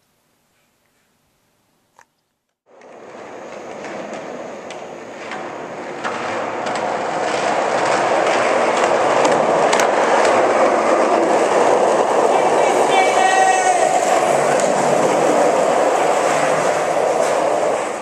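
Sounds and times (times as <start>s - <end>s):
skateboard wheels rolling on concrete: 2.0s - 18.0s.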